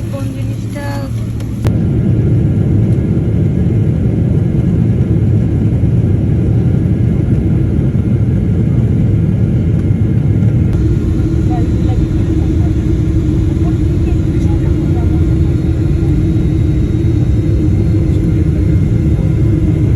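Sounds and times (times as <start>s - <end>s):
moving vehicle rumble: 0.0s - 19.9s.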